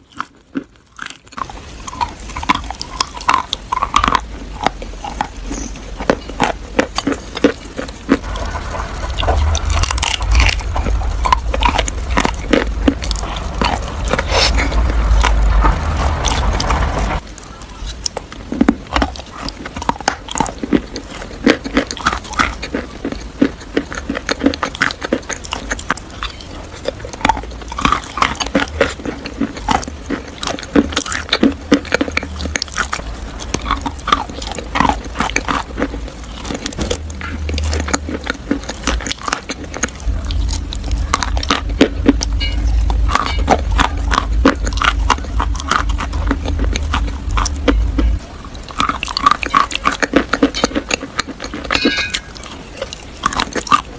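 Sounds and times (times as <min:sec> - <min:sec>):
chewing crisp food: 0:00.0 - 0:53.9
low rumble: 0:01.3 - 0:22.5, 0:23.8 - 0:53.9.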